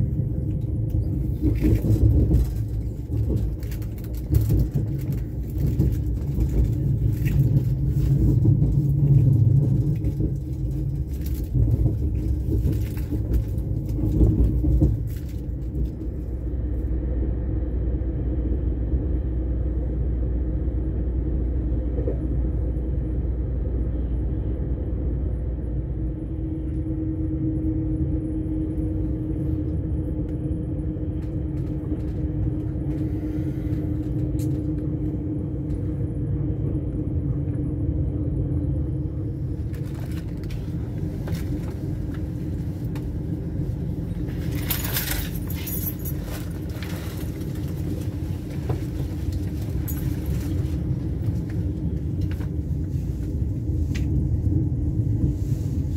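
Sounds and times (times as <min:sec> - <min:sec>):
passenger train rumble: 0:00.0 - 0:55.9.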